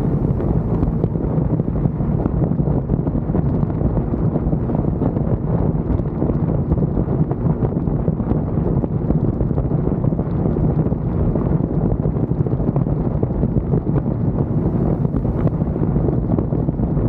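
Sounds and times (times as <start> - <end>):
motorcycle engine running: 0.0 - 16.1
wind buffeting microphone: 0.0 - 17.0.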